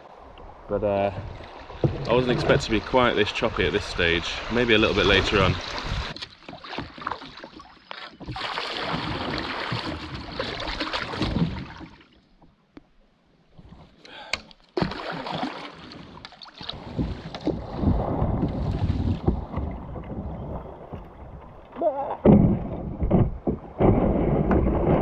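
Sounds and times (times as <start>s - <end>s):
kayak paddle splashing water: 1.2s - 12.5s, 14.4s - 25.0s.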